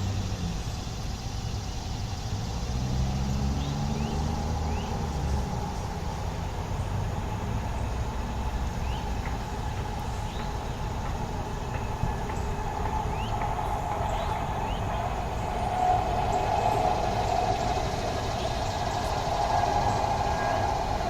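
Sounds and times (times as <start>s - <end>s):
road traffic rumble: 0.0s - 21.0s
small birds chirping: 0.0s - 21.0s.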